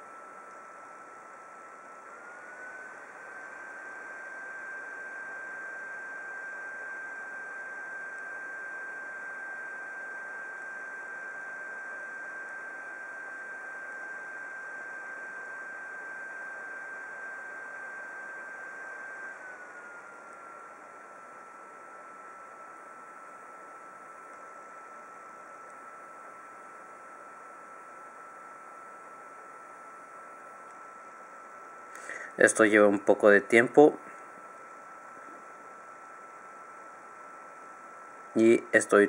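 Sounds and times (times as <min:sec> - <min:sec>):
computer fan whirring: 0:00.0 - 0:39.0.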